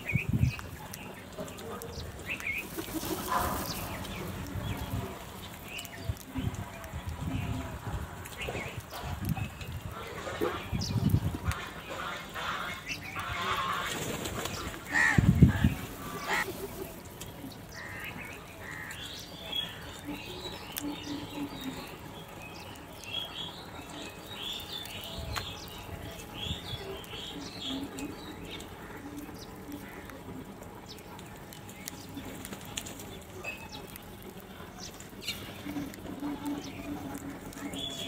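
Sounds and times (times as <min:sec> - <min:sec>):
birds chirping faintly: 0:00.0 - 0:38.0.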